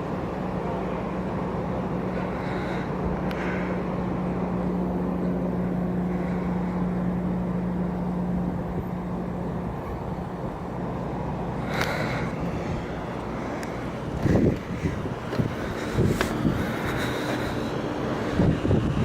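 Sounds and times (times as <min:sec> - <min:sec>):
droning hum: 0:00.0 - 0:19.0
low outdoor rumble: 0:00.0 - 0:19.0.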